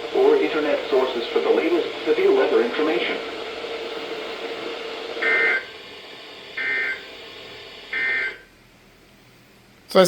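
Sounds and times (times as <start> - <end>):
radio broadcast hiss: 0.0 - 8.4.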